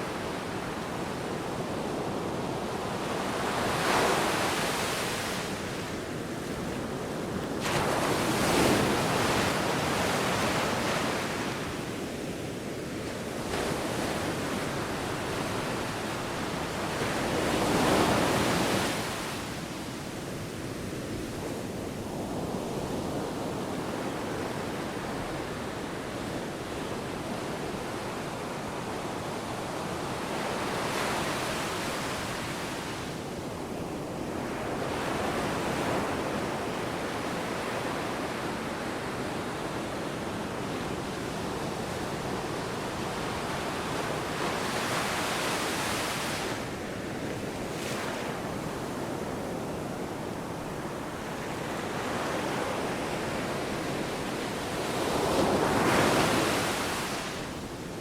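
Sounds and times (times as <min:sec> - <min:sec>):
wind: 0:00.0 - 0:58.0.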